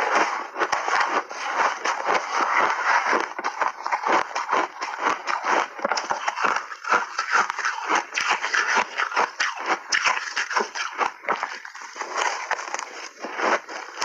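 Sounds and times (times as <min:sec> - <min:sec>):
crunchy ice being chewed: 0:00.0 - 0:14.0.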